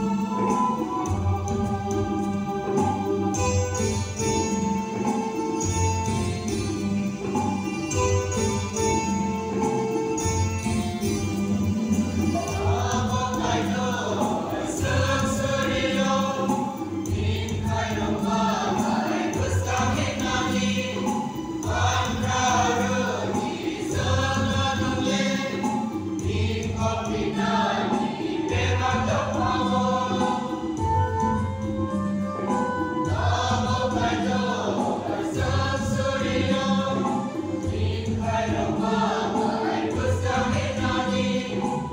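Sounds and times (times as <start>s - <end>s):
choir singing gospel: 0.0s - 41.9s.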